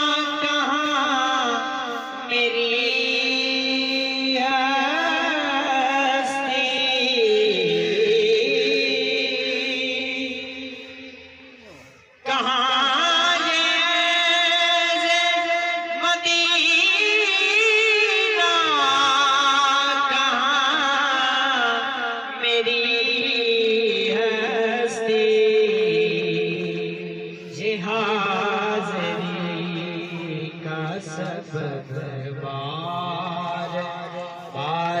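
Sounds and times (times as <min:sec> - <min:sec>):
person singing devotional song: 0:00.0 - 0:35.0.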